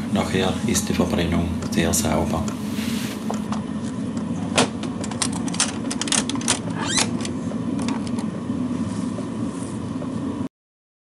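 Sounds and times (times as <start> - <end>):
heater fan humming: 0.0 - 10.5.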